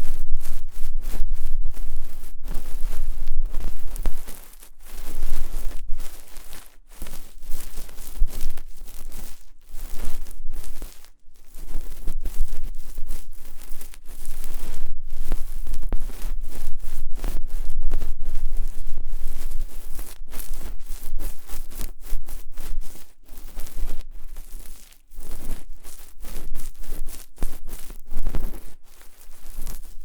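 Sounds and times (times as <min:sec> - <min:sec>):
ear pick scratching microphone: 0:00.0 - 0:30.0.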